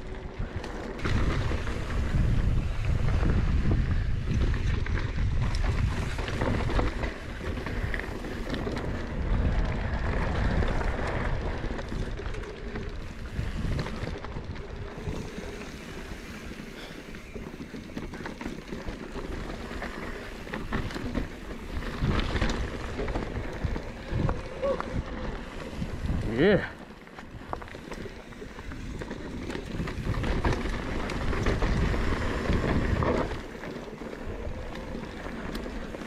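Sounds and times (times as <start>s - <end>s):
bike tyres on dirt trail: 0.0s - 36.0s
wind buffeting microphone: 0.0s - 36.0s.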